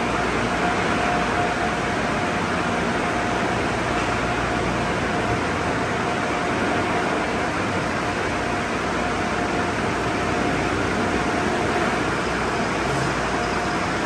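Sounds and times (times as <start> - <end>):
dryer blowers rushing air: 0.0 - 14.0
faint constant whine: 0.0 - 14.0.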